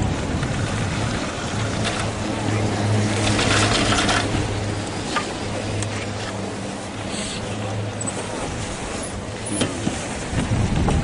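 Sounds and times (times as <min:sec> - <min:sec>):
wind on microphone: 0:00.0 - 0:07.0, 0:08.3 - 0:11.0.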